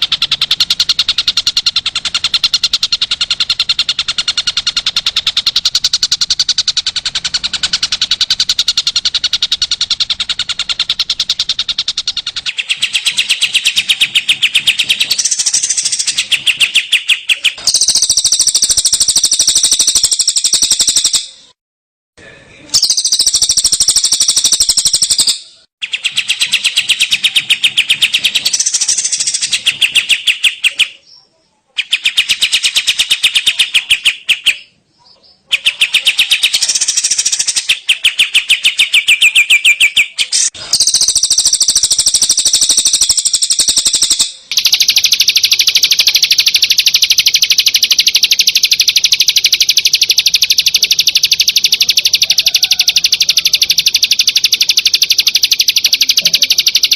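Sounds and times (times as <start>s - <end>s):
songbird chirping trills: 0.0s - 21.6s, 22.6s - 56.9s.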